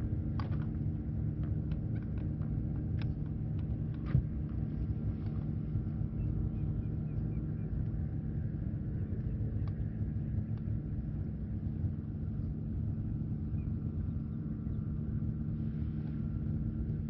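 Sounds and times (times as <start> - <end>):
faint hum: 0.0 - 17.0
low mechanical rumble: 0.0 - 17.0.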